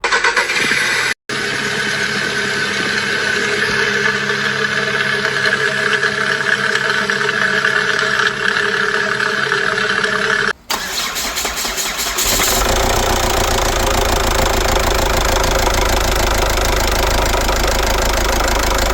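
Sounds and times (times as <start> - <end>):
car engine idling: 0.0 - 18.9
fast engine ticking: 0.0 - 18.9.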